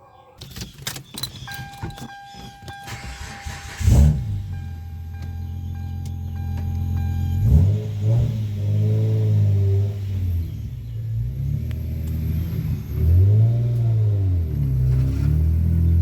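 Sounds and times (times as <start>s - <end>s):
car engine revving: 0.4s - 16.0s.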